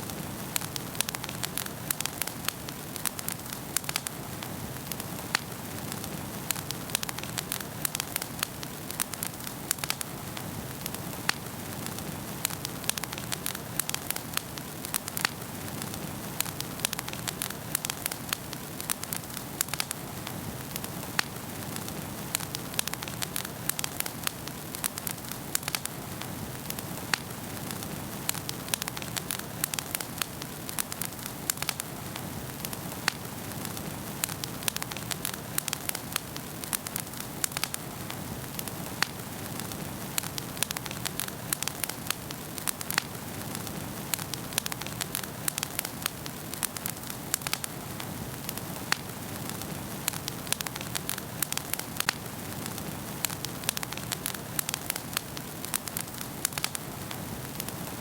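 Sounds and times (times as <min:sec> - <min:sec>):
fire pops and snaps: 0:00.0 - 0:58.0.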